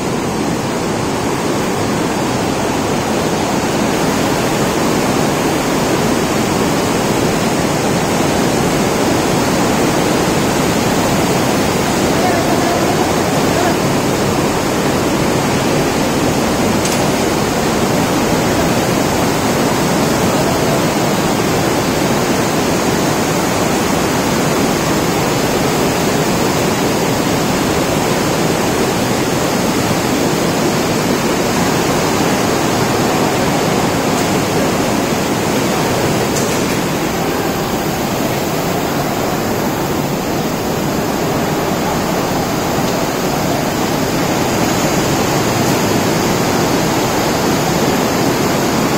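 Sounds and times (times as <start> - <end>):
floodwater rushing: 0.0 - 48.9.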